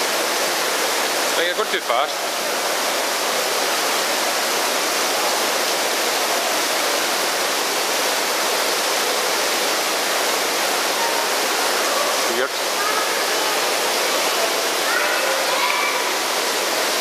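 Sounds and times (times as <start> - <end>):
rain pouring onto grated floor: 0.0 - 17.0.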